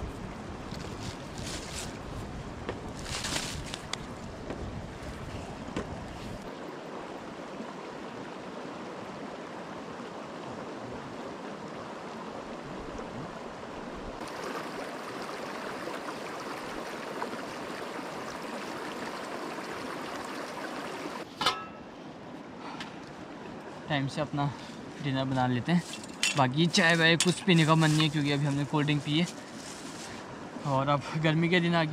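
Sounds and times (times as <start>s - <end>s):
river water flowing: 0.0s - 31.9s.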